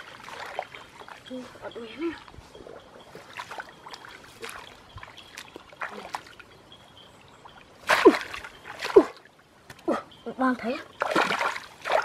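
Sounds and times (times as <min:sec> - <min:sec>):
water splashes: 0:00.0 - 0:06.6, 0:07.4 - 0:09.5, 0:10.7 - 0:12.0
water trickling and dripping: 0:00.0 - 0:12.0.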